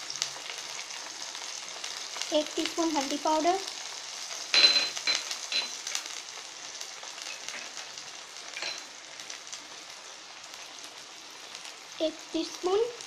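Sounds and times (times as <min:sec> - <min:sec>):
oil crackling and popping: 0:00.0 - 0:13.0
onions sizzling in oil: 0:00.0 - 0:13.0.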